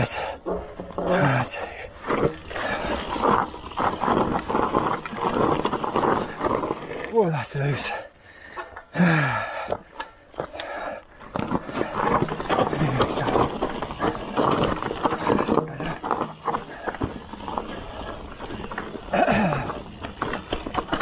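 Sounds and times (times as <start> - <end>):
rider grunting: 0.0 - 7.1, 10.6 - 21.0
mountain bike rattling on dirt: 0.0 - 21.0.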